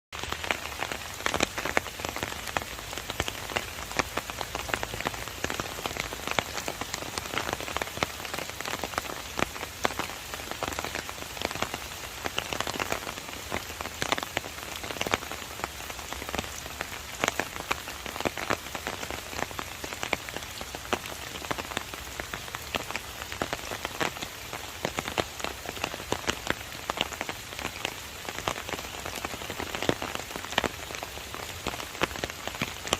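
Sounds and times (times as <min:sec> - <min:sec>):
rain falling: 0:00.1 - 0:32.9
raindrops ticking on surface: 0:00.2 - 0:32.9.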